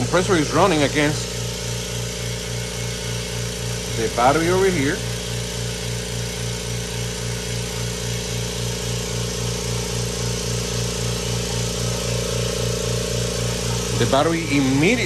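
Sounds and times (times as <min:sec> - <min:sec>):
air compressor pulsing: 0:00.0 - 0:15.0.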